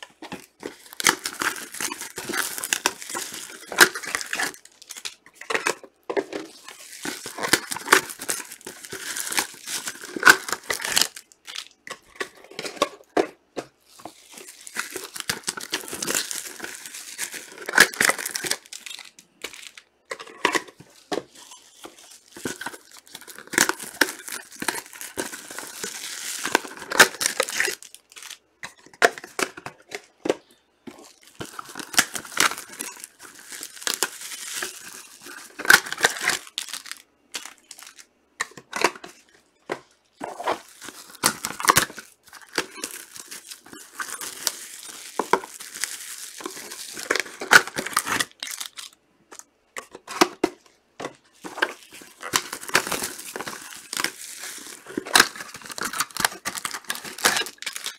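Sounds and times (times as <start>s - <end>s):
plastic wrappers crinkling and tearing: 0.0s - 13.2s, 13.9s - 49.5s, 51.2s - 57.9s.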